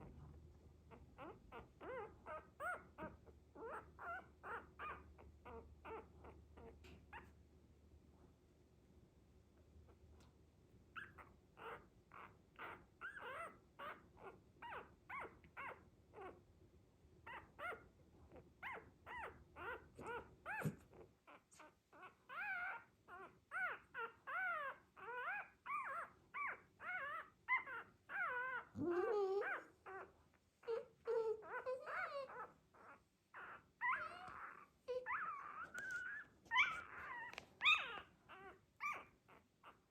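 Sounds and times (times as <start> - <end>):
puppy whimpering: 0.9 - 7.4, 10.9 - 16.4, 17.2 - 39.9.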